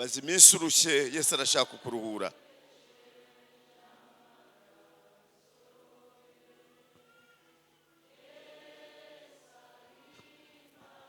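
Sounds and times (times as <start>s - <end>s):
faint choir singing: 0.0s - 11.0s.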